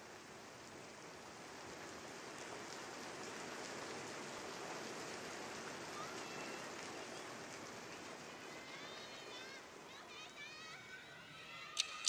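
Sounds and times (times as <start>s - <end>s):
falling rain hiss: 0.0s - 12.0s.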